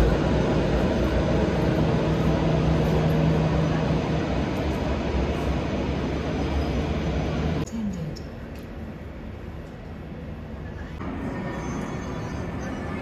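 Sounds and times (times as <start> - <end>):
jet engines rumbling: 0.0 - 7.7, 8.4 - 13.0.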